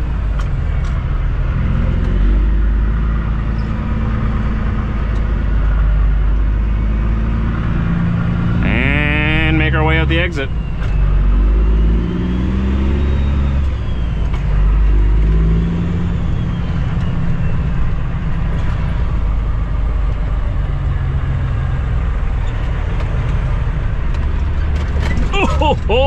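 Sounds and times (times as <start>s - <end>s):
diesel truck engine: 0.0s - 26.0s.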